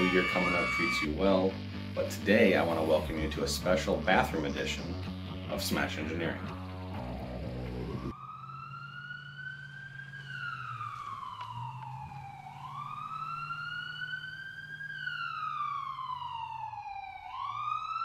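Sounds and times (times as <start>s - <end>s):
wailing siren: 0.0s - 1.6s, 2.6s - 18.0s.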